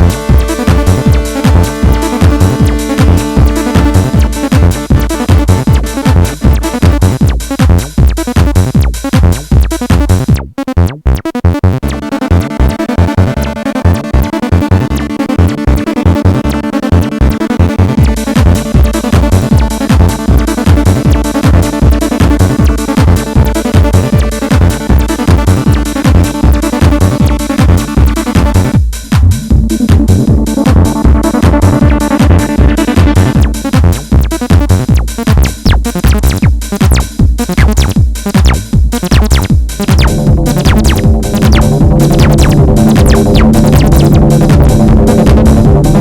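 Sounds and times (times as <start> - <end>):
sustained synth chords: 0.0 - 7.4, 11.8 - 35.1, 39.4 - 46.0
acid bassline: 0.0 - 46.0
acid techno drum beat with kick: 0.0 - 46.0.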